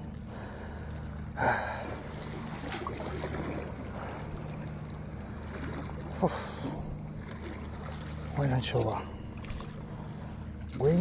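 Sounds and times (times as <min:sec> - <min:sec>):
sea wash: 0:00.0 - 0:11.0.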